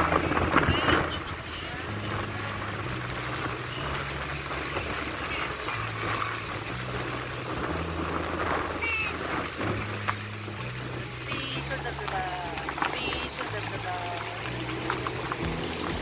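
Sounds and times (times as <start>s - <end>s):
low bass notes: 0.0s - 16.0s
waterfall rushing: 0.0s - 16.0s.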